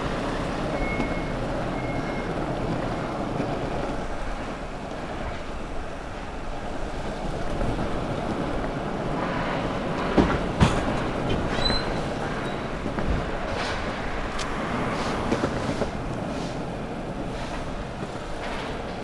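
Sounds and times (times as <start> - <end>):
skateboard wheels rolling on asphalt: 0.0 - 19.0.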